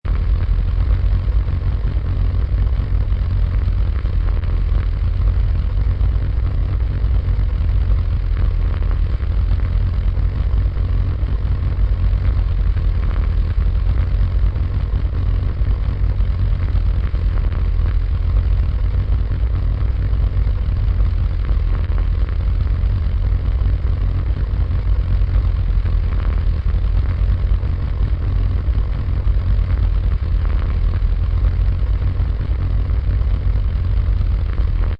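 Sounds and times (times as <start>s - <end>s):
deep engine running steadily: 0.0s - 34.9s.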